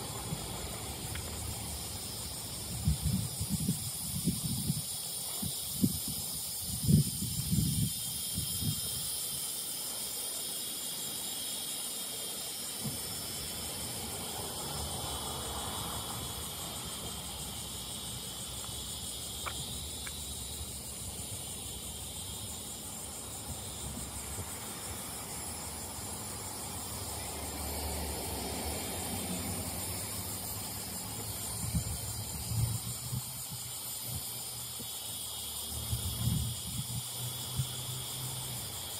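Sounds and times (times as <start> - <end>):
outdoor hiss: 0.0 - 38.9.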